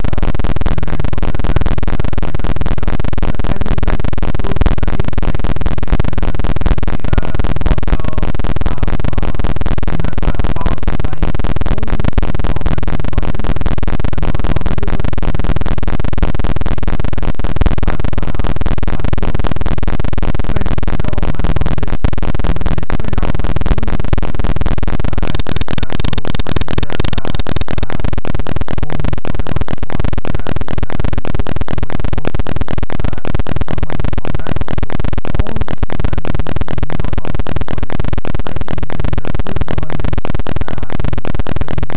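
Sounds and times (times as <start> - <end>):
crackling audio distortion: 0.0 - 41.9.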